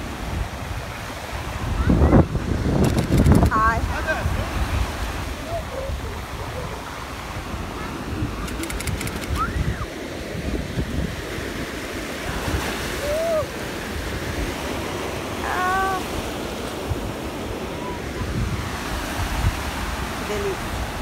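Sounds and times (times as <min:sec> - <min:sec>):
small waves washing on sand: 0:00.0 - 0:21.0
wind rumbling on microphone: 0:00.0 - 0:21.0.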